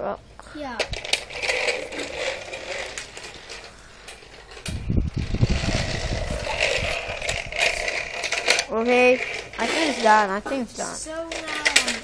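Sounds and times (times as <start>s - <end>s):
toy mechanism clicking and rattling: 0.6s - 12.0s.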